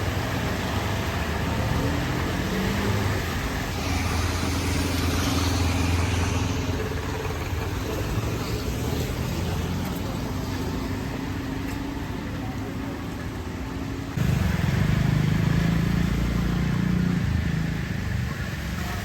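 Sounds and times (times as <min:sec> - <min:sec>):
vehicle engine running: 0:03.0 - 0:18.8.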